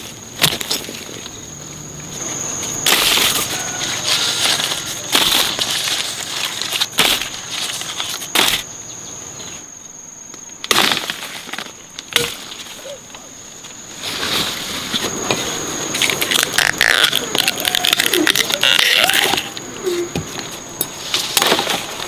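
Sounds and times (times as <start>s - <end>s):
rustling: 0.0s - 8.8s, 9.4s - 22.0s
high insect drone: 0.0s - 22.0s.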